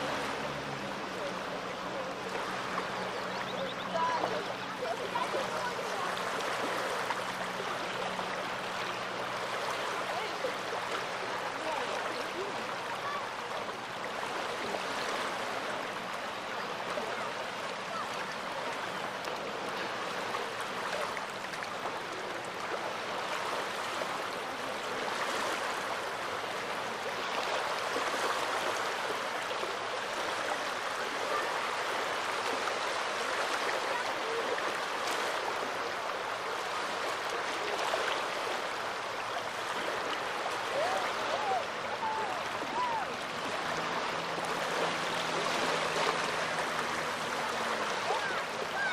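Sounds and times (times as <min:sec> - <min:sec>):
small waves washing onto shore: 0:00.0 - 0:48.9.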